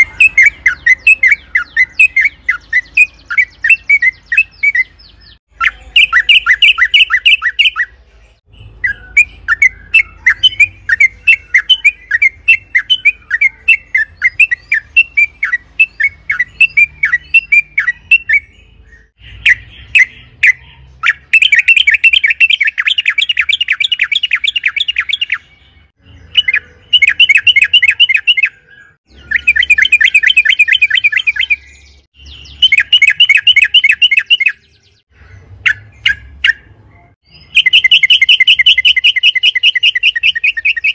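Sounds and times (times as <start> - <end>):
bird singing rapid sharp chirps: 0.0 - 40.9.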